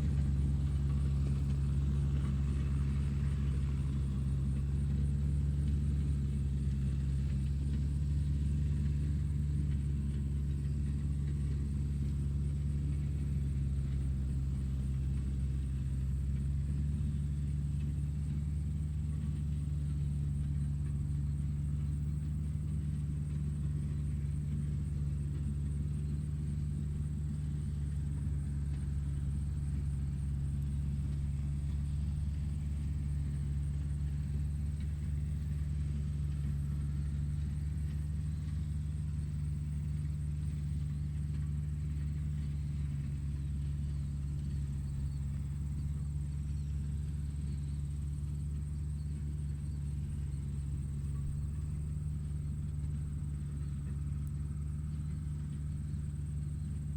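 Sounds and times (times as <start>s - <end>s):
machinery engine rumble: 0.0s - 56.9s.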